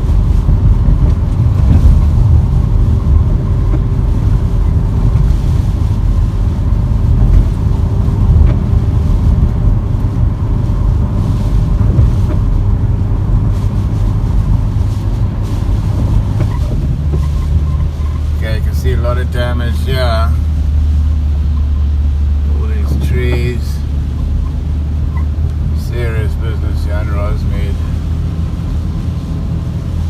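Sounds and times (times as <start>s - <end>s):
car interior engine rumble: 0.0s - 30.0s.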